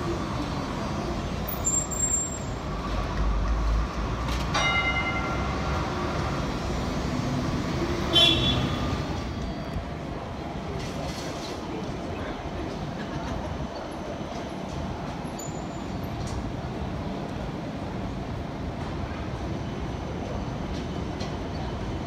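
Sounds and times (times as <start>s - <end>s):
street traffic: 0.0s - 22.0s
tram rumbling on rails: 0.0s - 22.0s.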